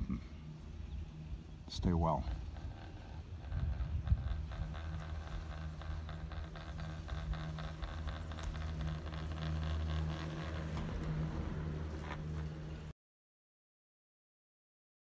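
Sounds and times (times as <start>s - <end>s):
chairlift humming: 0.3s - 12.9s.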